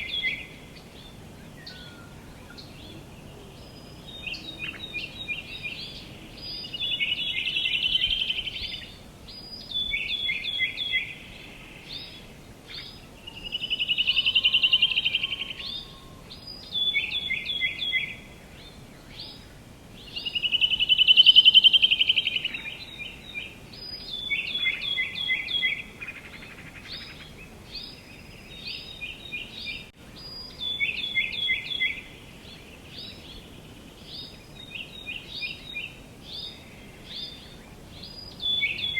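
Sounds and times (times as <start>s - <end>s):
outdoor background hiss: 0.0s - 38.9s
songbirds chirping: 0.0s - 38.9s.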